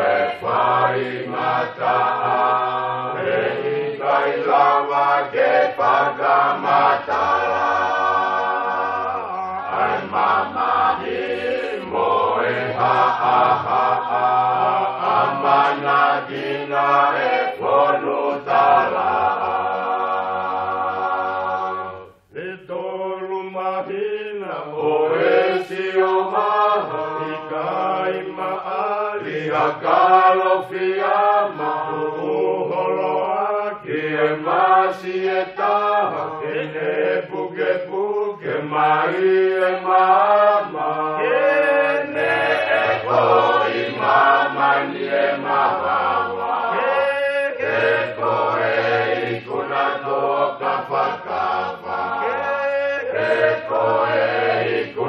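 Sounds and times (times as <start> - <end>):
voices singing a chant-like song: 0.0 - 55.0.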